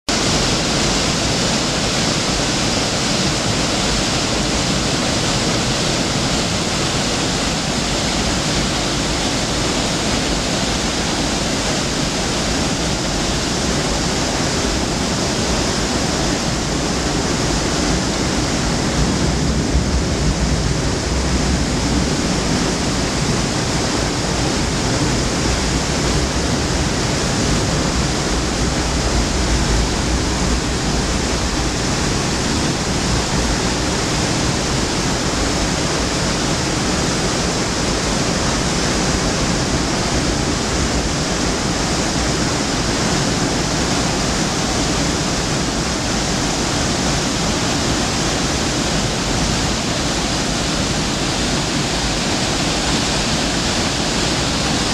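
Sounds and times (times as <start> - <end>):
waterfall and river rushing: 0.1 - 54.9.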